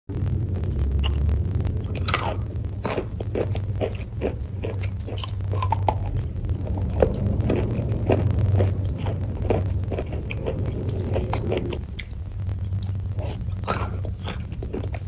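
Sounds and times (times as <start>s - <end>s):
steady low hum: 0.1s - 15.0s
crunchy chewing: 1.8s - 15.0s.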